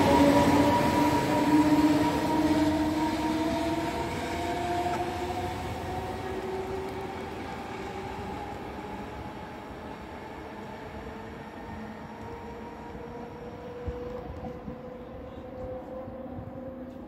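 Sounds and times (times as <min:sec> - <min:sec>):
electric locomotive whine: 0:00.0 - 0:17.0
train rolling rumble: 0:00.0 - 0:17.0.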